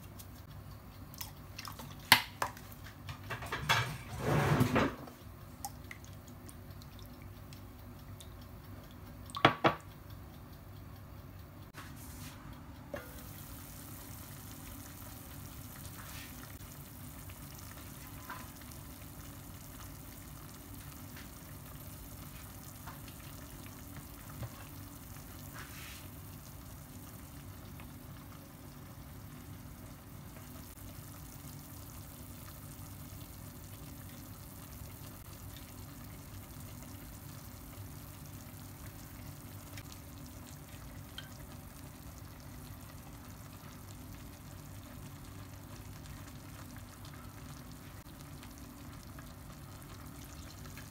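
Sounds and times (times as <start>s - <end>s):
food sizzling in a pot: 2.0s - 5.3s, 11.8s - 50.9s.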